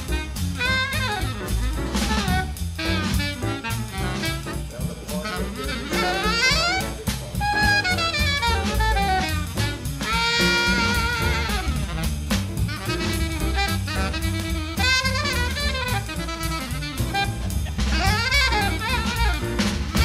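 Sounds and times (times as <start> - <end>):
drum kit steady beat: 0.0 - 20.0
horn melody: 0.0 - 20.0.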